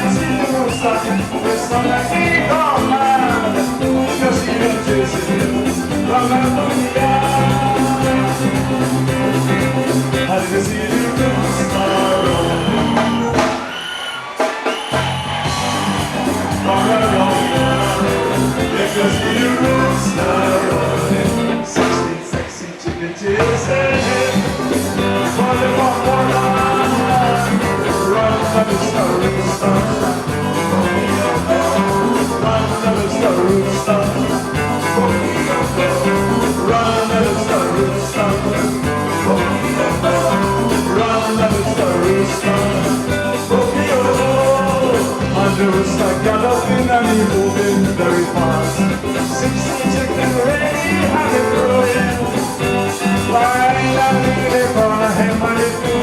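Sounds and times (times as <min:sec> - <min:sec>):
upbeat band music: 0:00.0 - 0:56.0.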